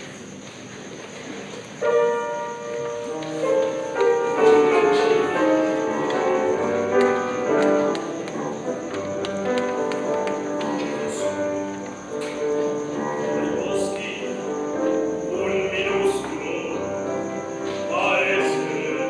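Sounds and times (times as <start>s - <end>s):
piano playing: 1.7s - 19.0s.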